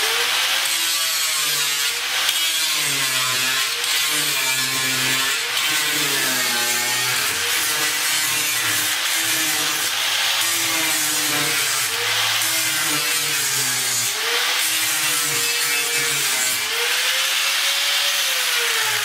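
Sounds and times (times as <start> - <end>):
angle grinder grinding steel: 0.0 - 19.0.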